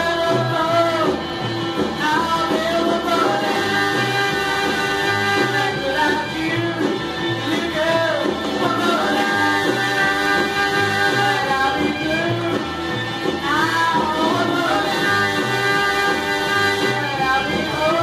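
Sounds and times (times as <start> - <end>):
garage rock song with vocals: 0.0 - 18.0.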